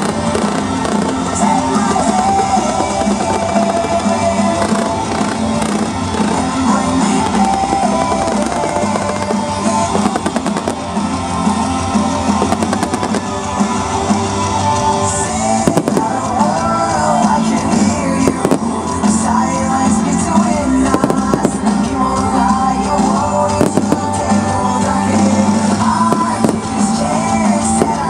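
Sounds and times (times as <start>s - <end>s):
fireworks cracking and popping: 0.0s - 28.0s
pop-rock song over sound system: 0.0s - 28.0s.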